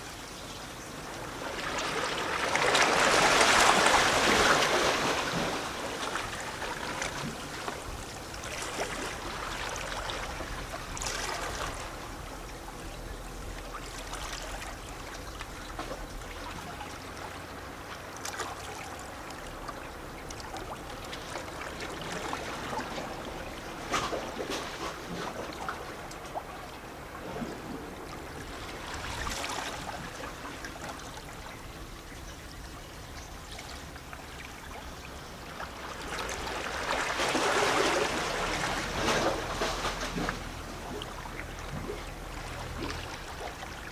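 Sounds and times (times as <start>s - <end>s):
small waves lapping on rocks: 1.1s - 32.5s, 33.4s - 43.9s.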